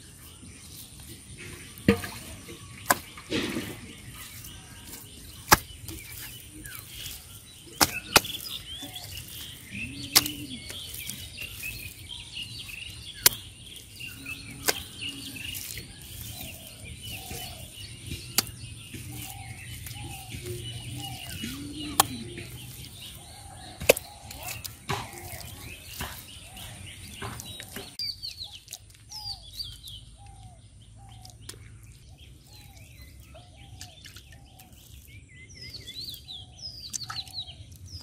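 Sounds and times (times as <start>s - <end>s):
birds chirping: 0.0s - 38.0s
hands slapping wet mud: 0.0s - 38.0s
lower arched bird calls: 2.2s - 38.0s.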